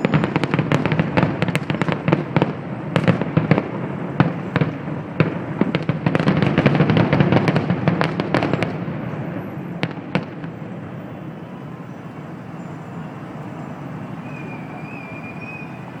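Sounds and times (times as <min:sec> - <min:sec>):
fireworks bangs and crackles: 0:00.0 - 0:16.0
steady background noise: 0:00.0 - 0:16.0.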